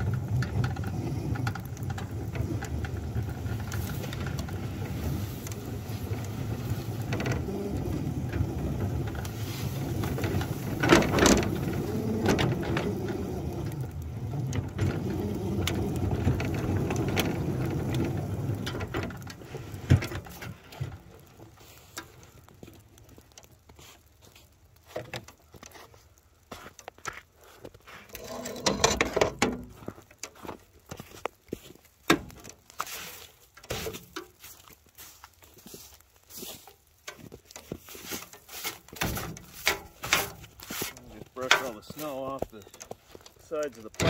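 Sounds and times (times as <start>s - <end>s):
miniature locomotive clattering: 0.0s - 44.0s
rain patter: 0.0s - 44.0s.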